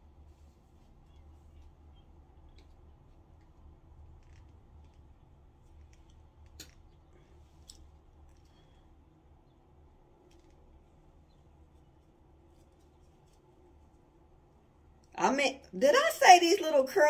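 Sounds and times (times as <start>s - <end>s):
faint ticks and rustles: 0.0s - 15.7s
steady low hum: 0.0s - 17.0s.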